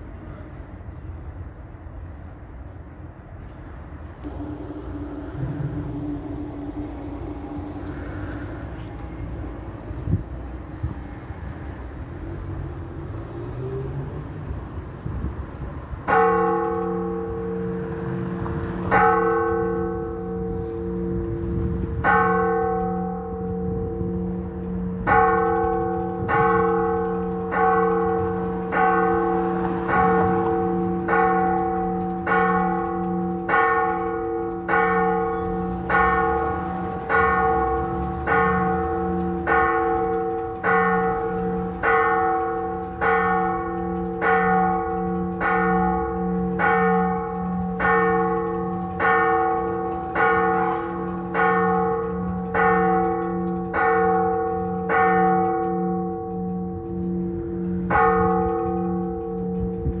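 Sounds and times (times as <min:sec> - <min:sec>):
church bell tolling: 0:04.2 - 0:10.2, 0:16.0 - 1:00.0.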